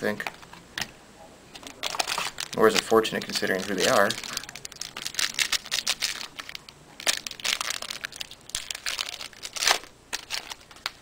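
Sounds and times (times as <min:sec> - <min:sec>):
wrapper crinkling: 0:01.5 - 0:11.0.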